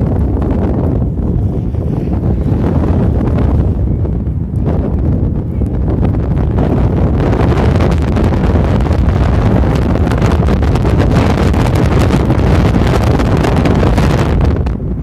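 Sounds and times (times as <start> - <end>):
blizzard wind buffeting microphone: 0.0 - 15.0.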